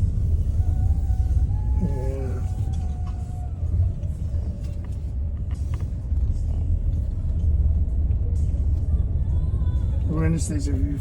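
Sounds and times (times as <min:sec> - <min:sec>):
car road rumble: 0:00.0 - 0:11.0.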